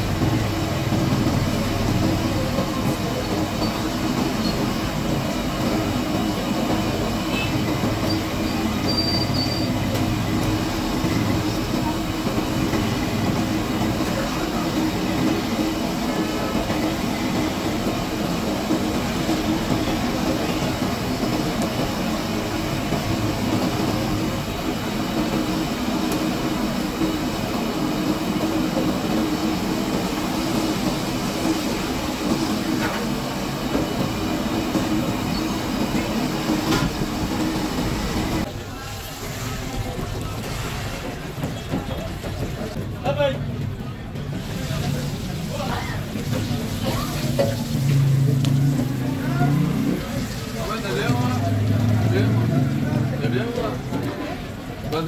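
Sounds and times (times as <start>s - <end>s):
oil sizzling and bubbling: 0.0s - 42.9s, 44.1s - 55.0s.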